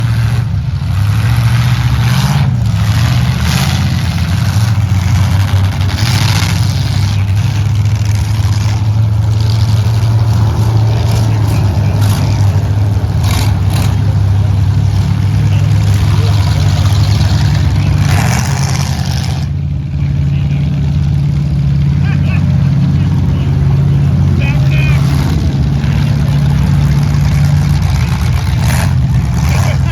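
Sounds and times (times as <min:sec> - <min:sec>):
truck engines revving: 0:00.0 - 0:29.9.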